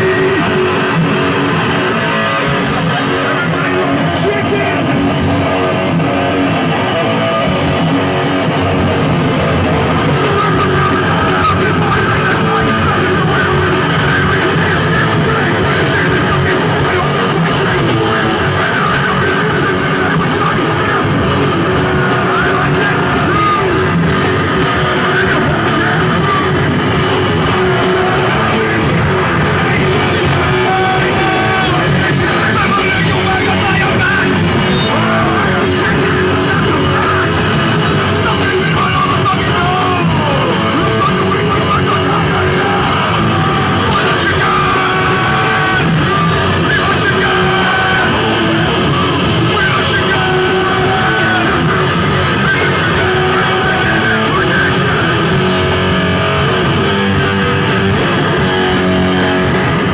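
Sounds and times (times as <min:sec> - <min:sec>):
punk rock band playing: 0:00.0 - 0:59.9
shouted singing: 0:00.0 - 0:59.9.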